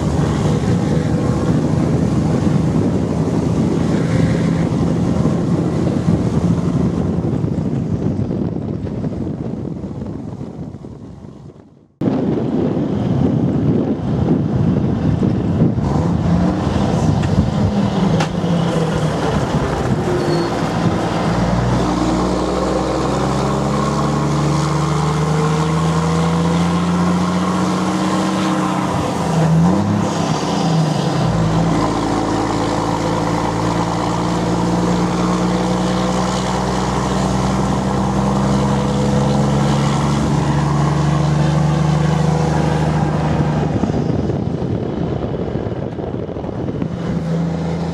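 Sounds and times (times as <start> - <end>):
diesel truck engine accelerating: 0.0 - 47.9
wind and road noise: 0.0 - 47.9.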